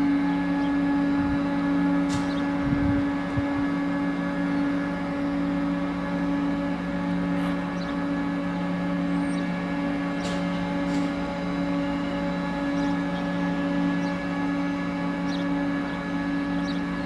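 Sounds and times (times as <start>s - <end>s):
diesel locomotives idling: 0.0s - 17.0s.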